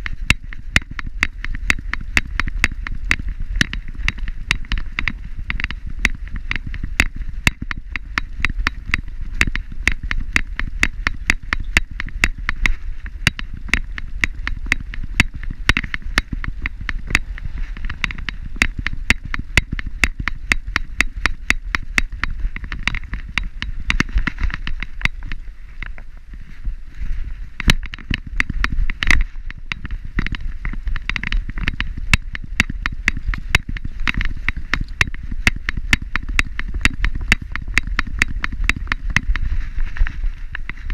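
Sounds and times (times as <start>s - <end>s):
harness gear clicking and rattling: 0.0s - 40.9s
low rumble: 0.0s - 40.9s.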